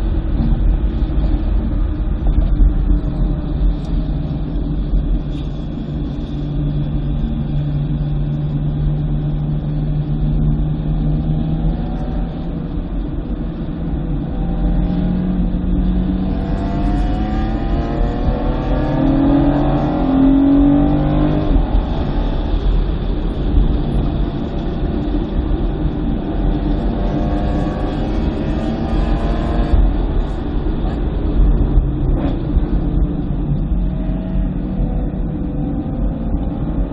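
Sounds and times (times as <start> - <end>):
road noise: 0.0 - 36.9.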